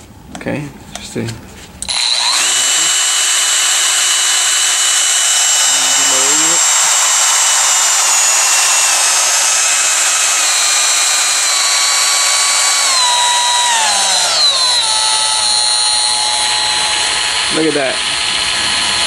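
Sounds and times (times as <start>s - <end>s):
die grinder whining: 1.8s - 19.0s.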